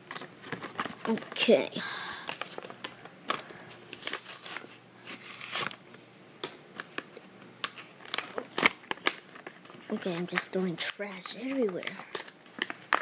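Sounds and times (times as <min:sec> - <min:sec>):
cardboard and plastic package tearing: 0:00.1 - 0:01.6, 0:02.2 - 0:05.8, 0:06.8 - 0:13.0.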